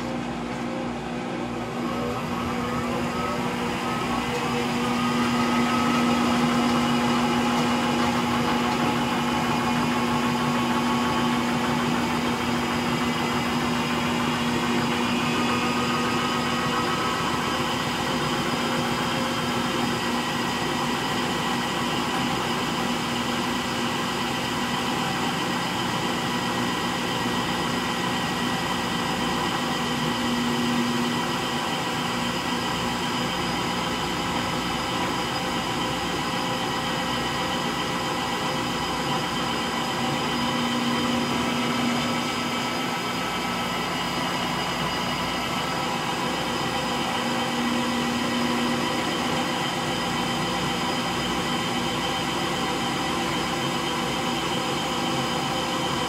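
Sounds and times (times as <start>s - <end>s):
steady hum: 0.0s - 24.4s, 25.6s - 56.0s
washing machine spinning: 0.0s - 56.0s.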